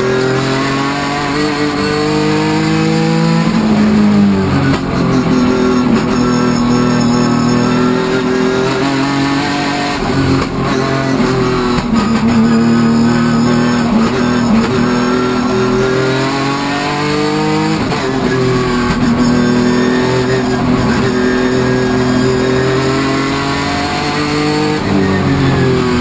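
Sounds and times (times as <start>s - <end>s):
race car engine under load: 0.0s - 26.0s.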